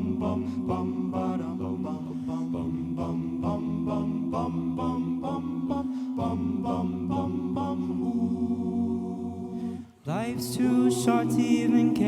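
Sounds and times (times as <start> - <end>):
male a cappella group singing: 0.0 - 12.0.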